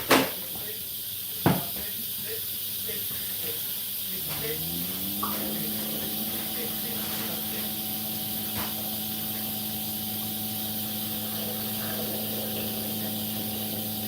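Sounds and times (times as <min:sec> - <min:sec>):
dishwasher pump humming: 0:00.0 - 0:14.0
water spraying inside dishwasher: 0:00.0 - 0:14.0.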